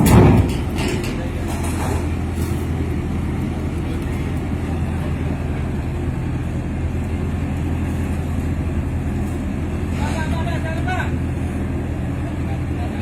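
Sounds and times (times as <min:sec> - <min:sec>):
ship engine low drone: 0:00.0 - 0:13.0.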